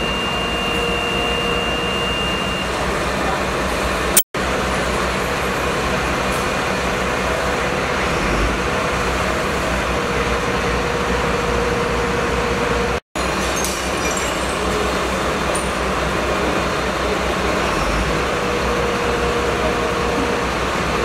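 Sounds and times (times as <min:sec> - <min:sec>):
fire engine pump droning: 0:00.0 - 0:21.0.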